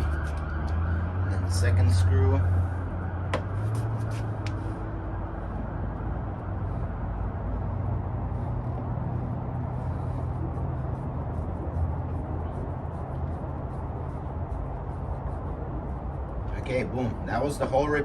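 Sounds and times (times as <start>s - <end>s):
outdoor rumble and hiss: 0.0s - 18.0s.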